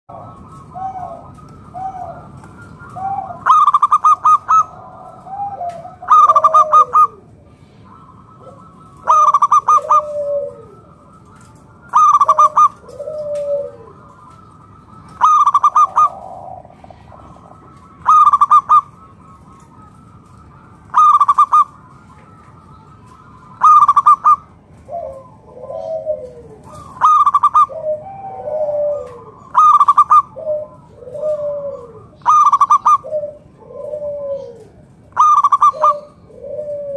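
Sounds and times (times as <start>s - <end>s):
dove cooing: 0.1s - 36.9s.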